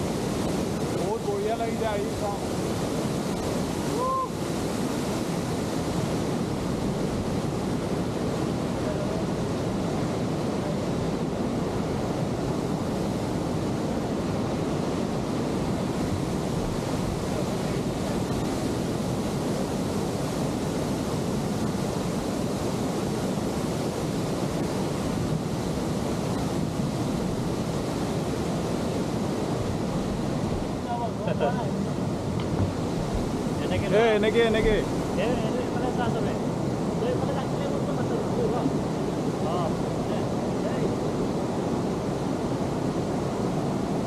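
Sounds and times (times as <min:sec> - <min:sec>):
waterfall rushing: 0:00.0 - 0:44.0
wind on microphone: 0:00.0 - 0:44.0.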